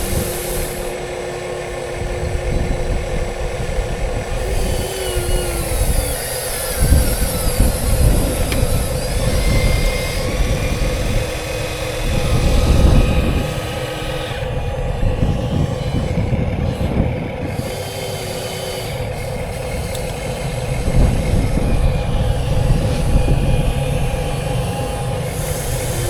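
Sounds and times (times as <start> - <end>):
high motor whines: 0.0 - 26.0
motors and gearing humming: 0.0 - 26.0.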